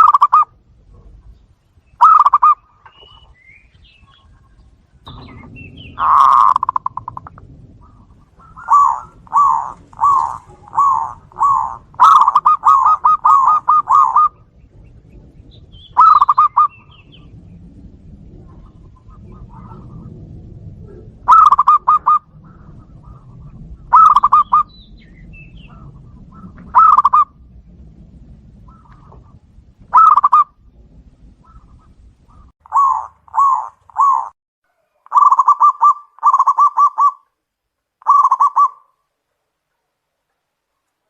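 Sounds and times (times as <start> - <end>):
doves cooing: 0.0 - 37.3, 38.0 - 38.9.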